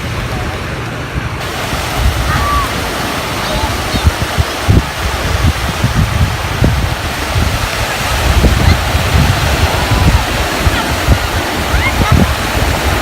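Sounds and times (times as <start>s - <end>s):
sea surf rushing: 0.0s - 13.0s
wind buffeting microphone: 0.0s - 13.0s.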